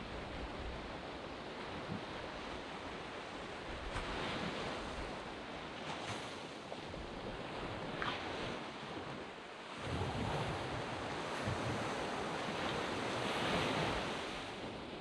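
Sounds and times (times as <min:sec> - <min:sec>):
waves breaking on sand beach: 0:00.0 - 0:15.0.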